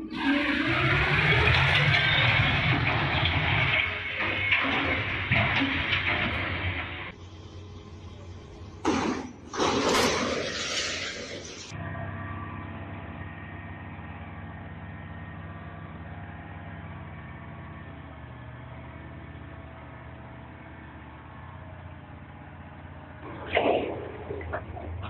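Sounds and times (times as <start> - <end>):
engine running steadily: 0.0 - 10.4, 11.4 - 25.0.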